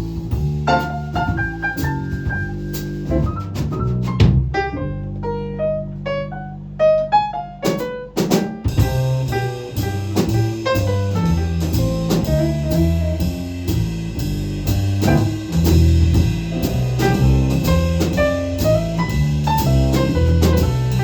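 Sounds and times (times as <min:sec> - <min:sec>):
bass line: 0:00.0 - 0:21.0
piano: 0:00.0 - 0:21.0.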